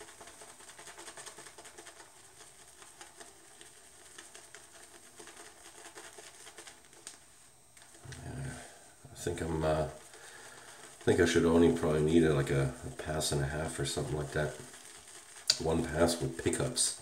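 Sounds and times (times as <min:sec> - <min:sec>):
shaving brush lathering soap: 0:00.0 - 0:17.0.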